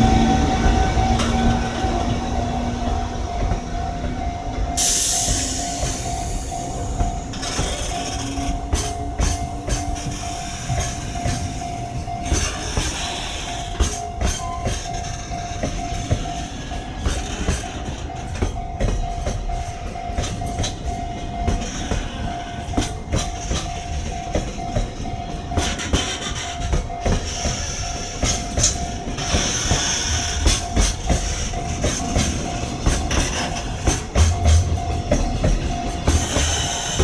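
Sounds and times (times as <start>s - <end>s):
freight train rumbling: 0.0s - 37.0s
steady high tone: 0.0s - 37.0s
wheels clacking over rail joints: 0.0s - 37.0s.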